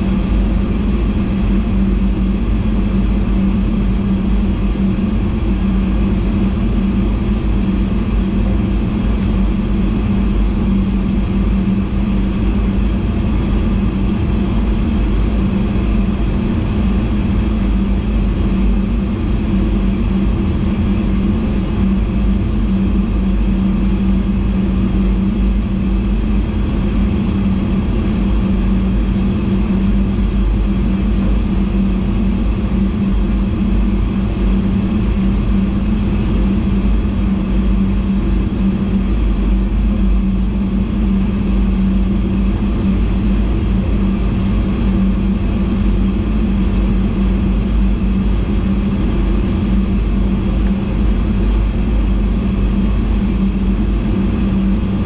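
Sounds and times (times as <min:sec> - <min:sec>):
constant low hum: 0:00.0 - 0:55.0.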